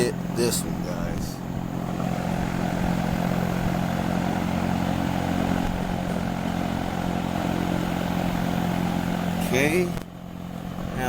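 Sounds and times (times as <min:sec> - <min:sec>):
motor drone: 0:00.0 - 0:11.0.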